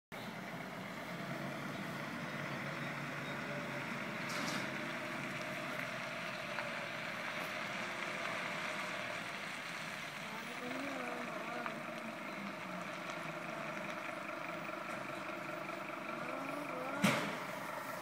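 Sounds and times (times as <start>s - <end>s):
truck diesel engine humming: 0.1s - 18.0s.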